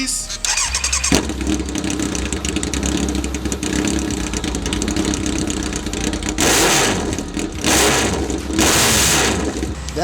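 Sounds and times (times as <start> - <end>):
motorcycle engine idling and revving: 0.4 - 10.0.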